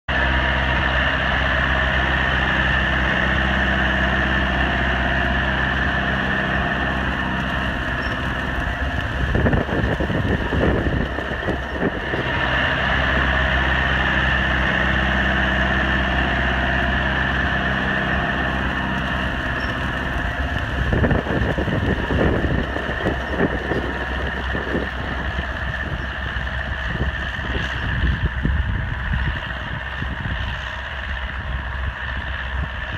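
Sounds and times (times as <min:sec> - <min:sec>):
tractor diesel engine running: 0:00.1 - 0:32.9
wind buffeting microphone: 0:02.0 - 0:32.9.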